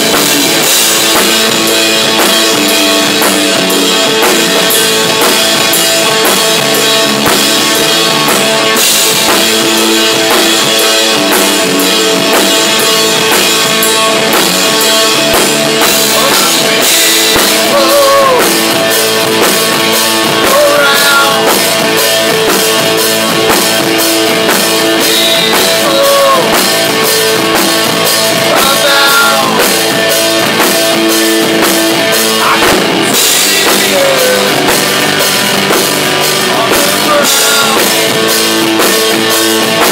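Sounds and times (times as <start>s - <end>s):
drum kit cymbal hits: 0.0s - 39.9s
electric guitars: 0.0s - 39.9s.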